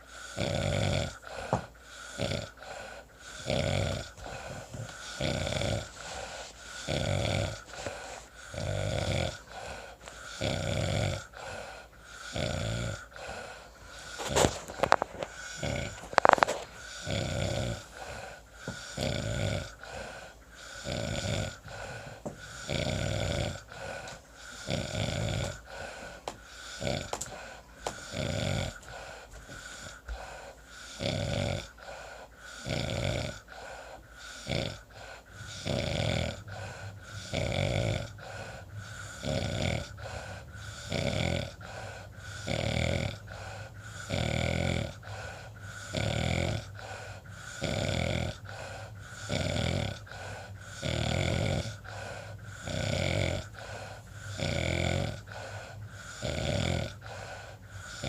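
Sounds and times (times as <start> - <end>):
loud rasping snoring: 0.0 - 58.0.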